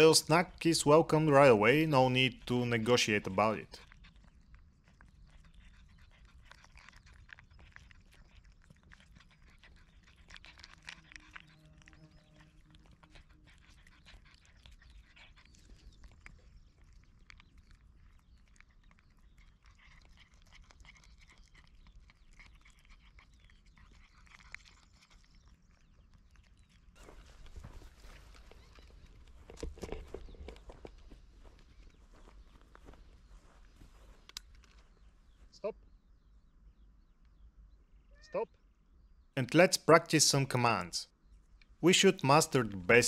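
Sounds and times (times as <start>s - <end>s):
cat licking and chewing: 0.0s - 35.0s.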